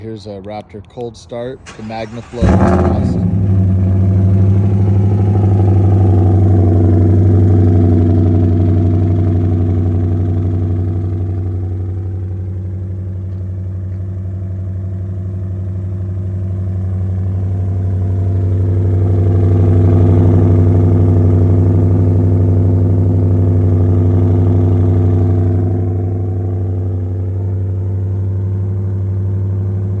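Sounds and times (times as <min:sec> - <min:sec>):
car engine fast idling: 0:01.6 - 0:30.0.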